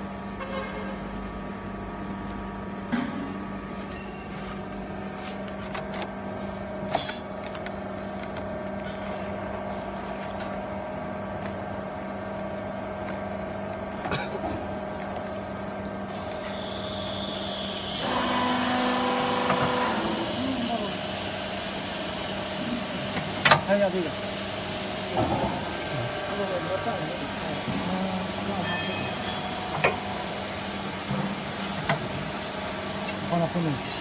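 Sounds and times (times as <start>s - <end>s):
hydraulic motor and pump humming: 0.0s - 34.0s.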